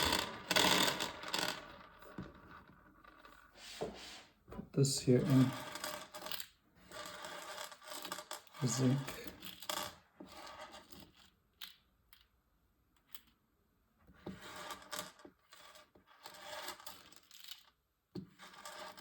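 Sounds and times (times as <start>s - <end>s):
rustling and scraping of small parts: 0.0s - 12.3s, 14.1s - 19.0s.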